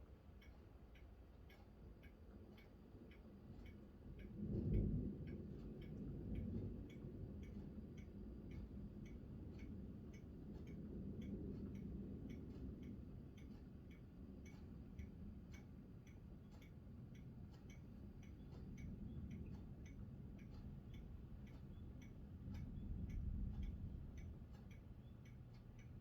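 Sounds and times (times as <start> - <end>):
low steady rumble: 0.0 - 26.0
faint ticking: 0.1 - 26.0.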